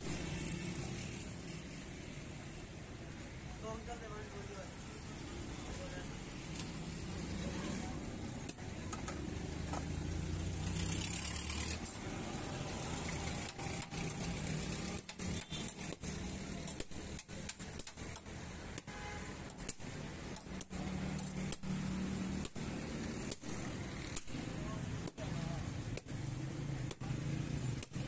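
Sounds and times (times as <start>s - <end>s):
vehicle engines humming: 0.0s - 28.0s.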